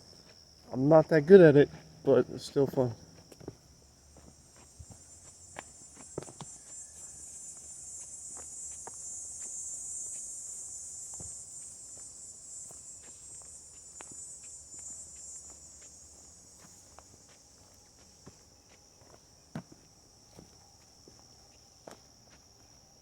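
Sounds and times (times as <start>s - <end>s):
footsteps walking: 0.0s - 22.7s
insects droning: 0.0s - 23.0s.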